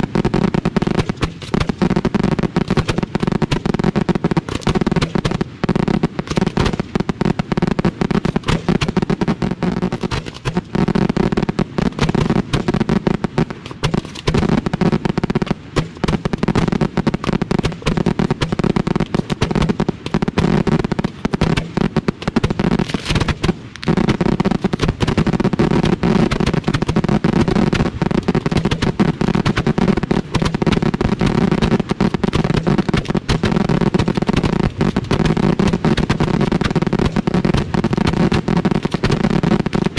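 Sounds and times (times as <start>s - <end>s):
fireworks shells launching with loud bangs: 0.0s - 39.9s.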